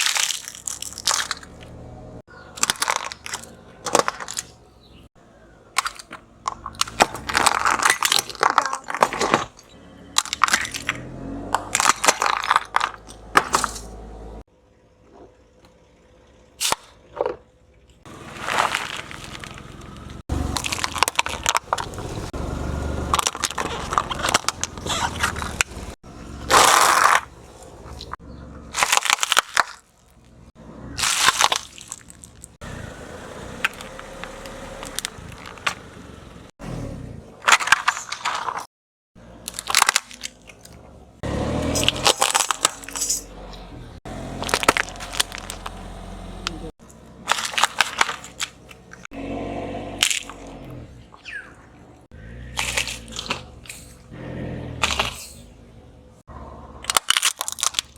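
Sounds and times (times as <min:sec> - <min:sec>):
objects crunching under car tyre: 0:00.0 - 0:15.9, 0:16.6 - 0:55.6, 0:56.2 - 0:57.9.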